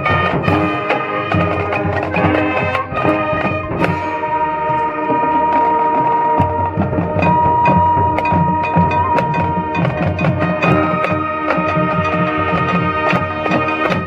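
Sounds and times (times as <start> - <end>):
drum beat: 0.0 - 14.0
sharp percussion strikes: 0.0 - 14.0
winds and brass chords: 0.0 - 14.0.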